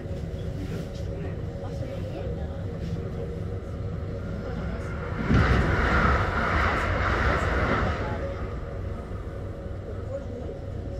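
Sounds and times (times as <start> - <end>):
passing train rush and rumble: 0.0 - 10.9
train running noise: 0.0 - 10.9.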